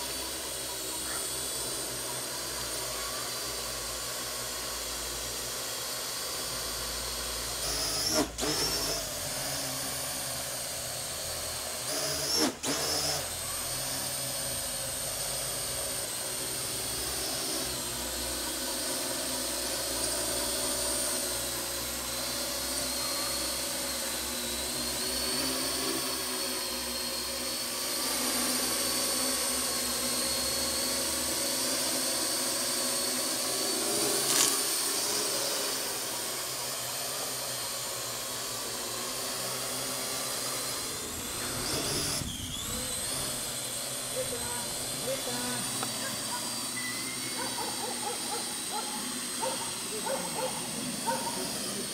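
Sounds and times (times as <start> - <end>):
quadcopter propellers whining: 0.0 - 51.9.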